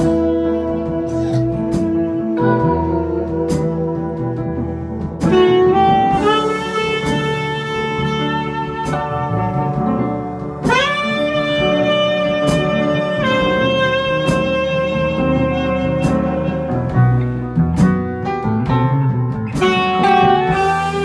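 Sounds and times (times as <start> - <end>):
drums: 0.0 - 21.0
piano: 0.0 - 21.0
saxophone playing jazz notes: 0.0 - 21.0.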